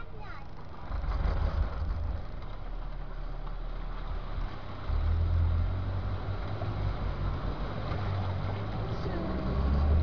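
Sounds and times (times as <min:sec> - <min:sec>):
off-road vehicle engine rumbling: 0:00.0 - 0:10.0.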